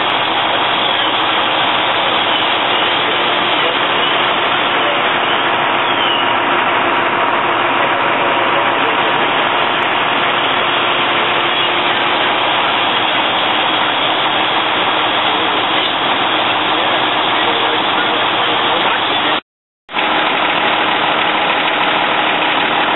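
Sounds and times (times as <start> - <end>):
fire engine engine running: 0.0 - 22.9.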